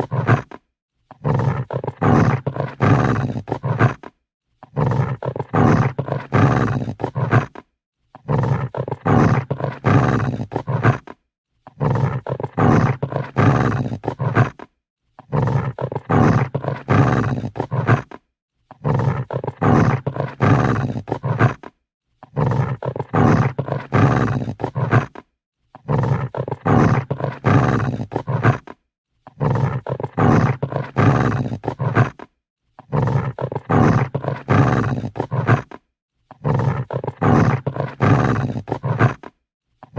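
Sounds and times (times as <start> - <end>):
dog growling: 0.0 - 39.9.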